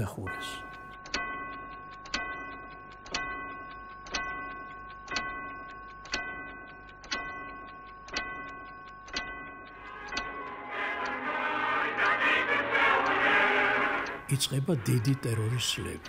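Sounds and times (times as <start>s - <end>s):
clock ticking with ringing tone: 0.0s - 16.0s.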